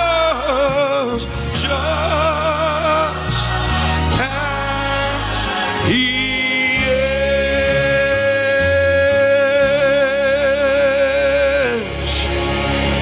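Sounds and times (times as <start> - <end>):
instrumental accompaniment: 0.0 - 13.0
solo voice singing gospel: 0.0 - 13.0.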